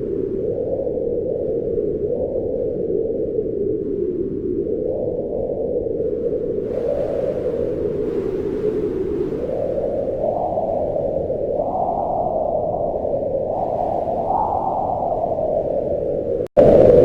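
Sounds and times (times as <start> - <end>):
wind howling: 0.0 - 17.0.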